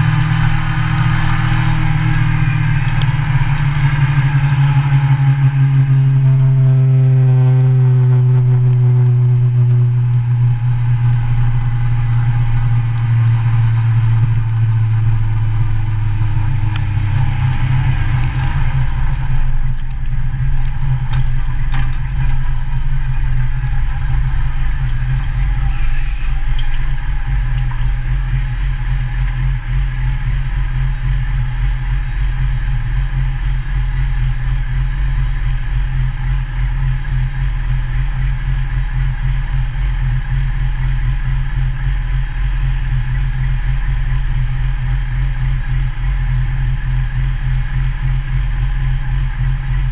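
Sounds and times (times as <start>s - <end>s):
motorcycle engine idling: 0.0s - 49.9s
motorcycle engine slowing: 0.0s - 49.9s.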